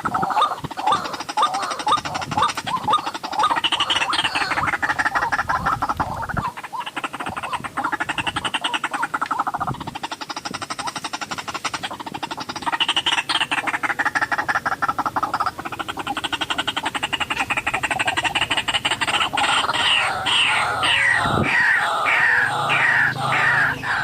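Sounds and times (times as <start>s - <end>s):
bird croaking chatter: 0.0s - 24.0s
bird repeated falling notes: 0.4s - 24.0s.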